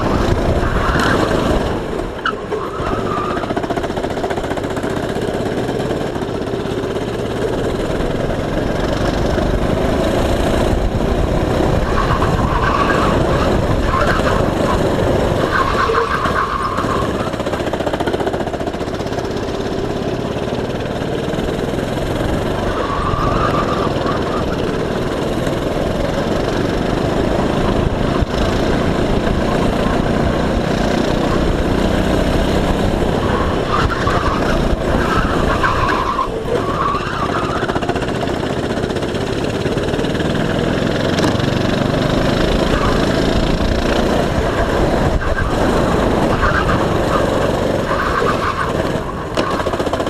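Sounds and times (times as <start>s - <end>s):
go-kart engine racing: 0.0s - 50.0s
wind and road noise: 0.0s - 50.0s.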